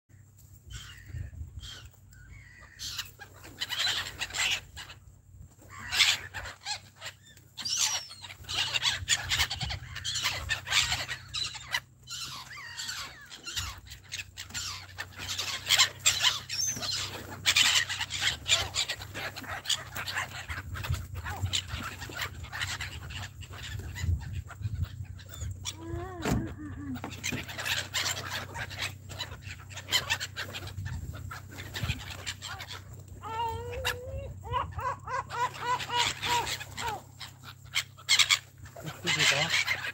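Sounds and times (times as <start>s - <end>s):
gulls calling: 0.1s - 39.9s.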